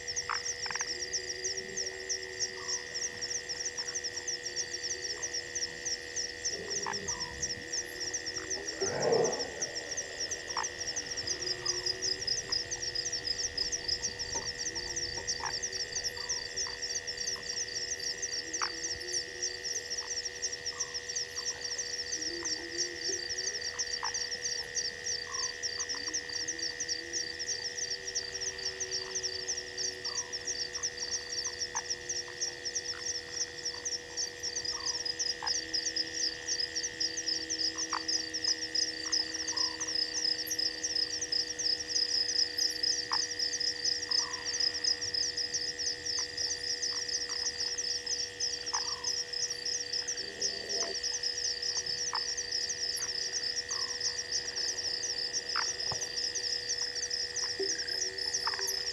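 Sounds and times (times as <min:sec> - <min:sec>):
steady high whine: 0:00.0 - 0:58.9.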